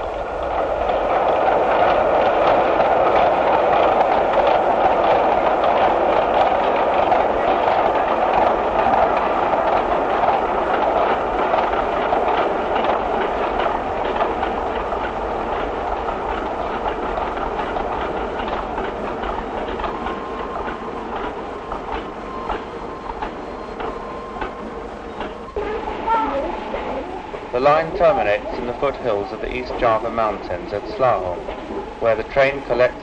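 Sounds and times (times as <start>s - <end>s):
train wheels clicking over rail joints: 0.0s - 33.0s.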